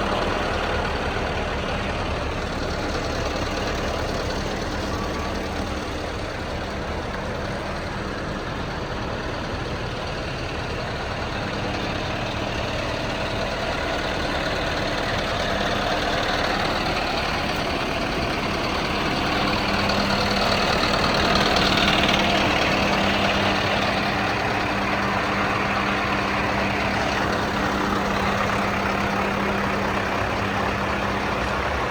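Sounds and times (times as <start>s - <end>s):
truck diesel engine idling: 0.0s - 31.9s.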